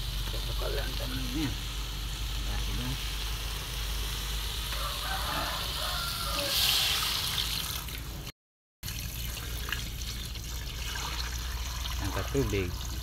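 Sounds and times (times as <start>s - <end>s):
meat sizzling in a pot: 0.0s - 7.8s, 9.0s - 13.0s
water pouring into a pot: 0.0s - 8.2s, 8.8s - 13.0s.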